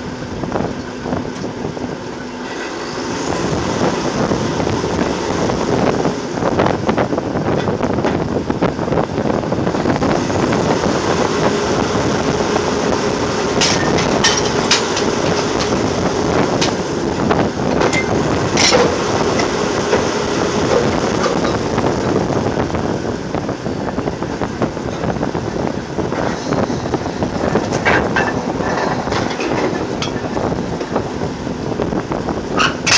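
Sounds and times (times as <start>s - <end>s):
drilling rig machinery running: 0.0s - 32.9s.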